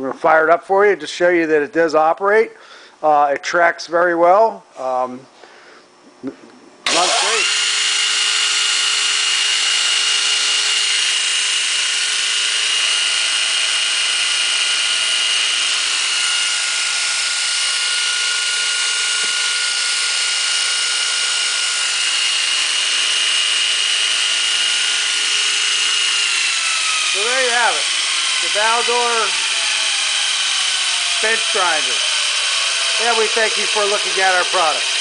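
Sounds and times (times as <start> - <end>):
belt sander running: 6.8 - 35.0.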